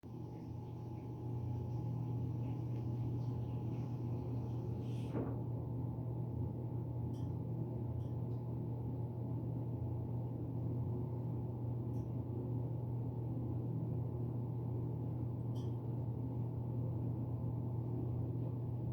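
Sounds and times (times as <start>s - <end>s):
steady low hum: 0.1s - 18.9s.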